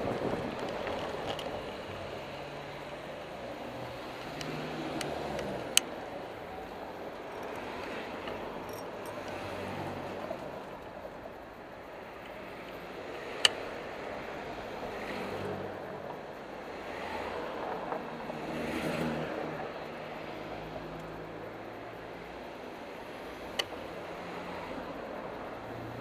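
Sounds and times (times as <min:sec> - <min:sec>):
cars driving past: 0:00.0 - 0:10.8, 0:11.4 - 0:26.0.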